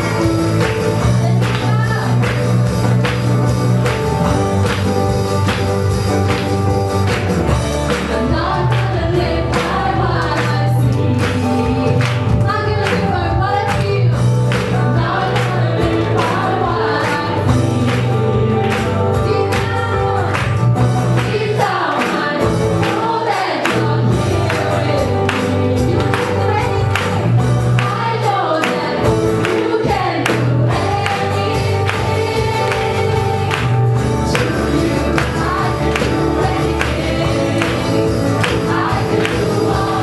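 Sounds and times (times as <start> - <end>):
band with drum beat: 0.0 - 40.0
voices singing worship song: 7.4 - 40.0.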